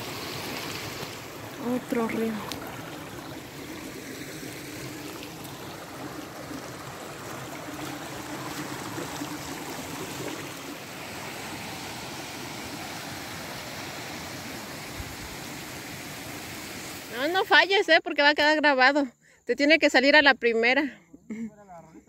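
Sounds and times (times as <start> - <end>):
stream running over rocks: 0.0 - 17.7.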